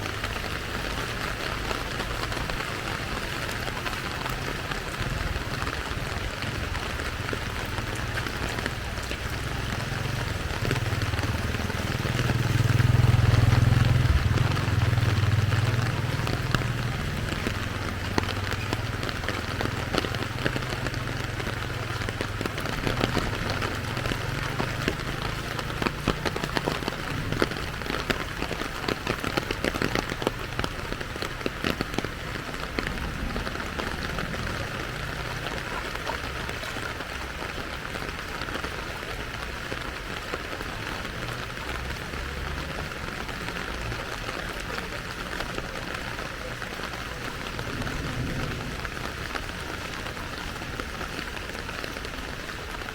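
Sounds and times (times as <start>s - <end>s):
rain falling: 0.0s - 52.9s
raindrops pattering close: 0.0s - 52.9s.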